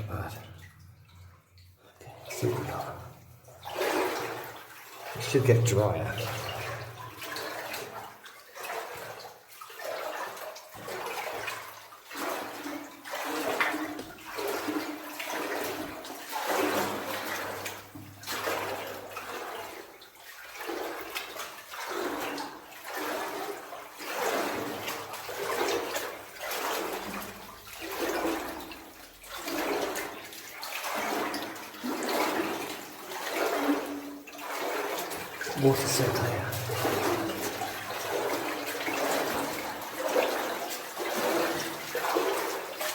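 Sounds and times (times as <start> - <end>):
boots wading through water: 0.0 - 42.9.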